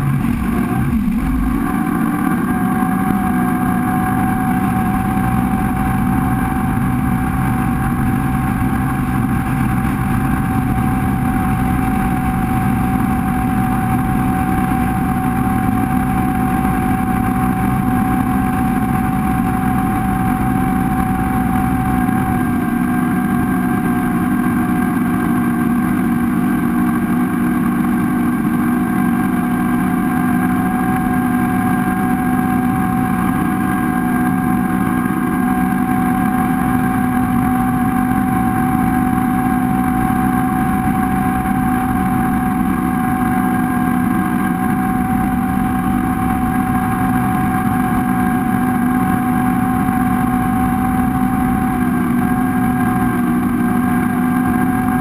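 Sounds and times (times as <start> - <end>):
motorboat engine running: 0.0 - 55.0
wind: 0.0 - 55.0.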